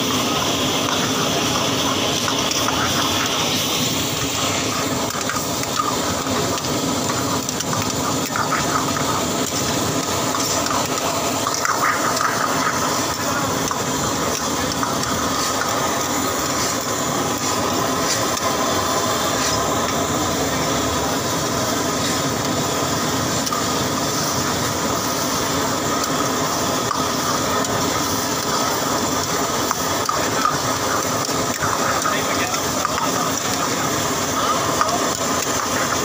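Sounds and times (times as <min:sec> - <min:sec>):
food sizzling in a wok: 0:00.0 - 0:36.0.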